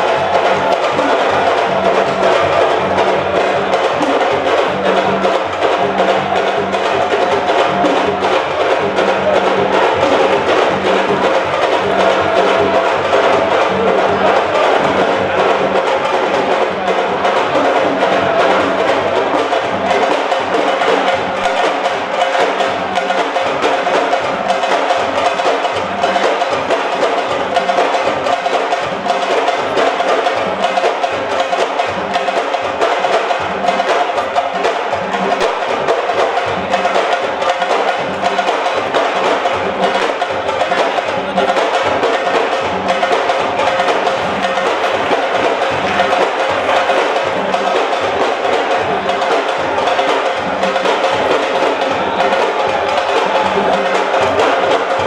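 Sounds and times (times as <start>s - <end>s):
fast continuous drumming: 0.0s - 55.0s.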